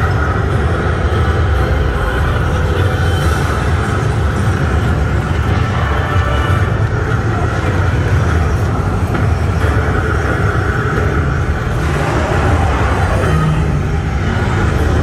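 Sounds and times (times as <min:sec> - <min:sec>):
ride vehicle rumbling: 0:00.0 - 0:15.0.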